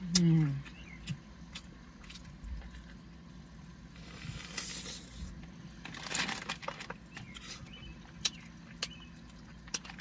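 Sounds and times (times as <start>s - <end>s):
wet chewing sounds: 0.0s - 10.0s.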